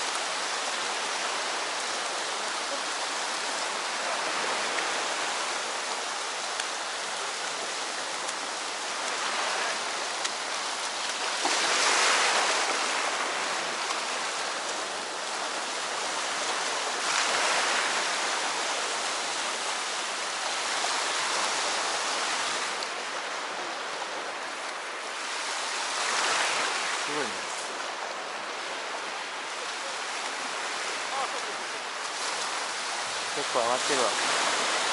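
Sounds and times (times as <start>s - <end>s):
sea waves washing onto shore: 0.0s - 34.9s.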